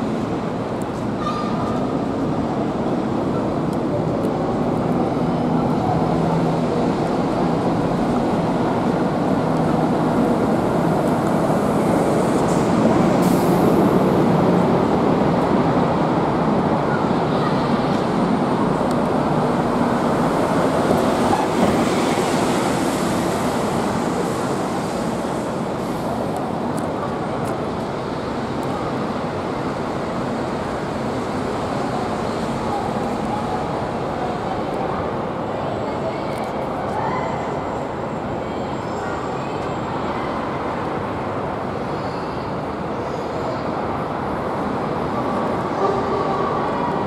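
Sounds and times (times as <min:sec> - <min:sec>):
train rumbling on track: 0:00.0 - 0:47.0.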